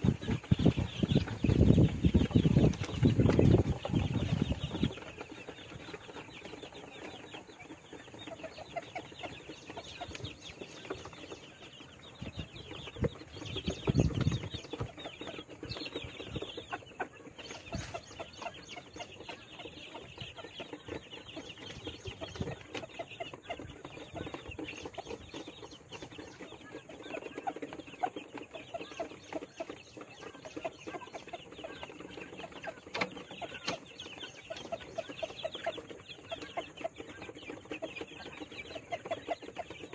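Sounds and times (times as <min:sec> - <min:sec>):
chicks chirping and peeping: 0:00.0 - 0:39.9.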